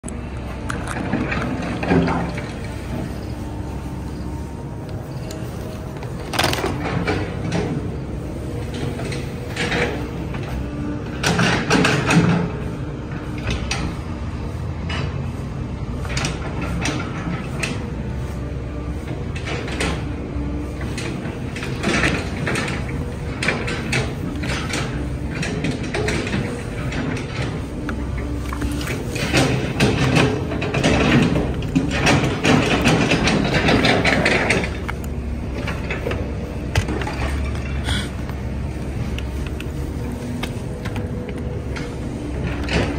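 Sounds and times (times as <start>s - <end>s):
low machine rumble: 0.0s - 42.9s
knocks and clanks: 0.6s - 14.0s, 19.0s - 42.9s.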